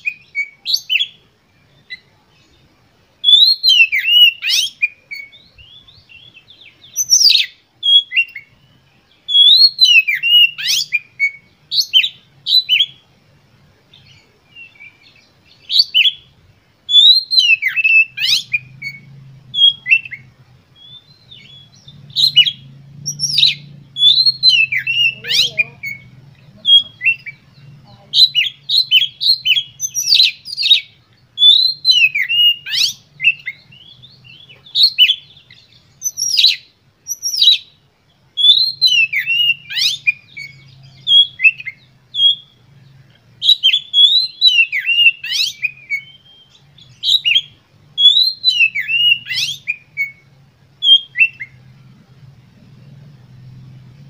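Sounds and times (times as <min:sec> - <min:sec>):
bird singing whistled notes: 0:00.0 - 0:13.2, 0:13.8 - 0:54.0.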